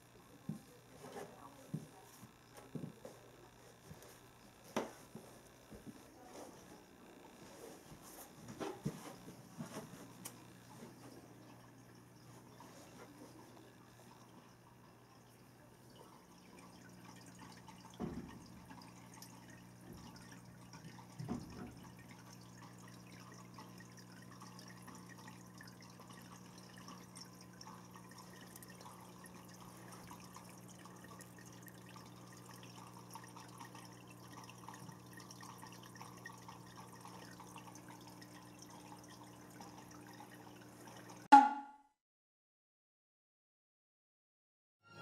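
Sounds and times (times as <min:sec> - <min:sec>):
low hum with light crackle: 0:00.0 - 0:41.3.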